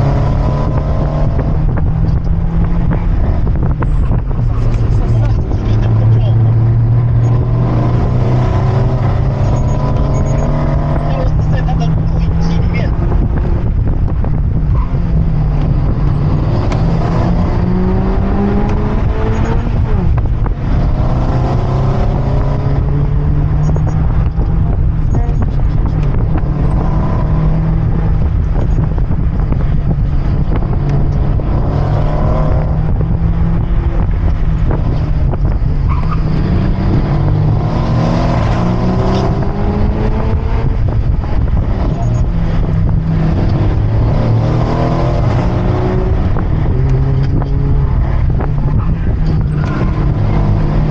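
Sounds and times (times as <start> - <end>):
car engine revving hard: 0.0 - 50.9
road noise: 0.0 - 50.9.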